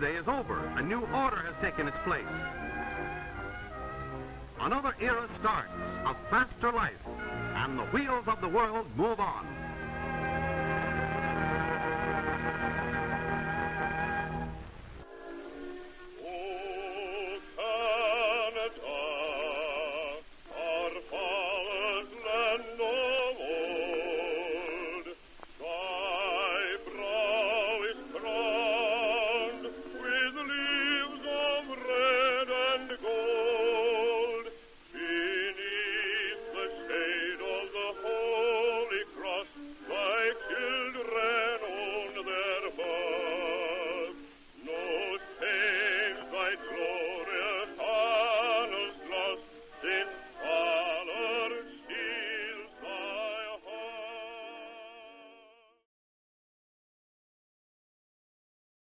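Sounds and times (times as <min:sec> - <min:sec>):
operatic singing with vibrato: 0:00.0 - 0:55.8.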